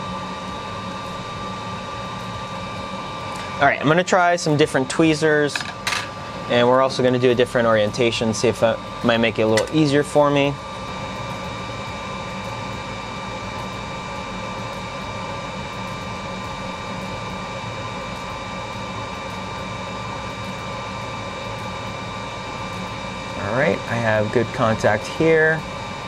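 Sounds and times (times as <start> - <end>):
ventilation fan running: 0.0 - 26.0.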